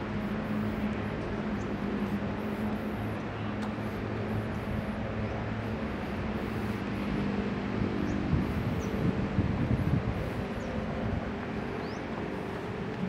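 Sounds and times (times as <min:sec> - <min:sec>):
distant city traffic drone: 0:00.0 - 0:13.0.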